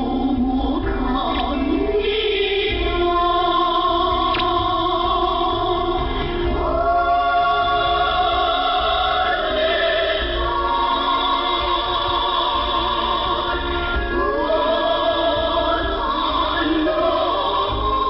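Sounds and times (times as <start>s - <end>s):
choir singing over radio: 0.0s - 18.0s.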